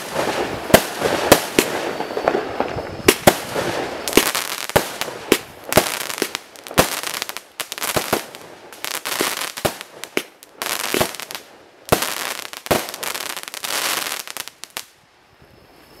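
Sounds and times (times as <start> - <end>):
firework bangs: 0.0 - 14.9
firework hiss: 0.0 - 15.0.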